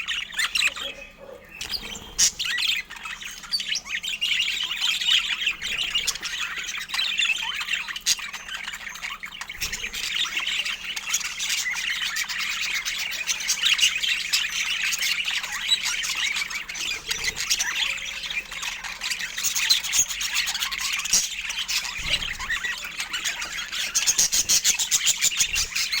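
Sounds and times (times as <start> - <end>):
budgerigars chattering and squawking: 0.0 - 26.0.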